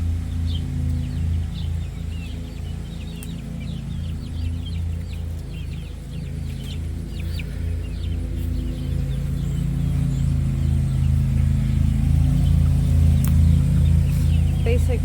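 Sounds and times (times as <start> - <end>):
low steady drone: 0.0 - 15.0
poultry chirping: 0.0 - 15.0.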